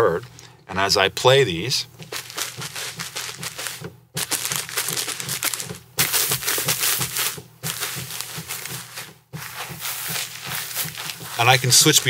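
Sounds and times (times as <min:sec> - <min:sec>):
footsteps on carpet: 0:01.9 - 0:12.0.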